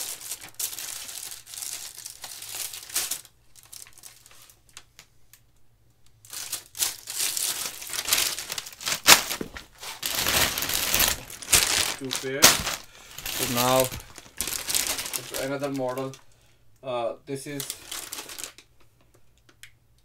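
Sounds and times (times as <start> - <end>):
plastic and paper crinkling: 0.0 - 5.0, 6.2 - 16.4, 17.3 - 18.7.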